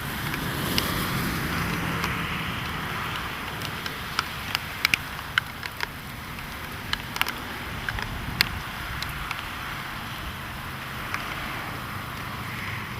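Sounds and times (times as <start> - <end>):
raindrops tapping on car: 0.0 - 12.8
road and rain noise inside car: 0.0 - 12.9.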